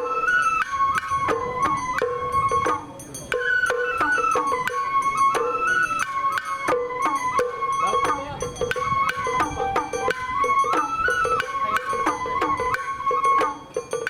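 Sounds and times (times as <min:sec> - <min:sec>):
bamboo flute melody: 0:00.0 - 0:14.0.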